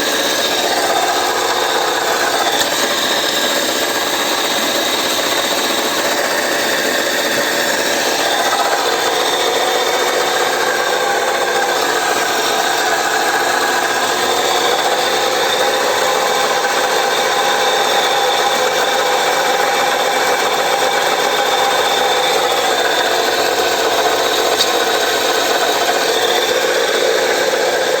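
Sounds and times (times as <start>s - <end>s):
alternator whirring: 0.0s - 28.0s.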